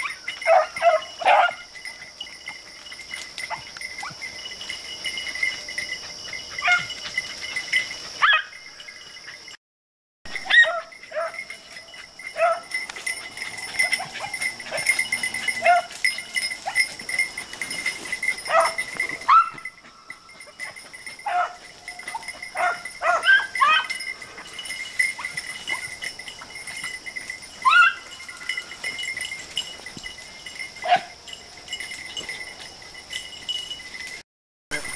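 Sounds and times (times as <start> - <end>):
dogs baying and yelping: 0.0 - 9.6, 10.3 - 34.1
insect chirring: 0.0 - 9.6, 10.3 - 34.9.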